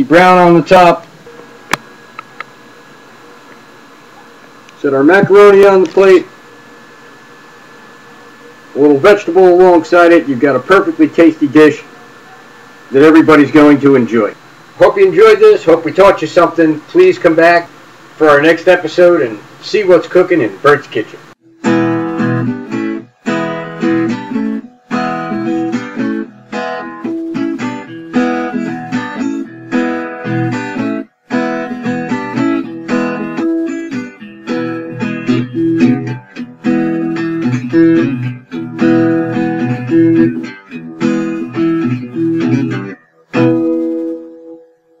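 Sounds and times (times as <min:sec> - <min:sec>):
guitar strumming chords: 0:00.0 - 0:17.4, 0:20.1 - 0:45.0.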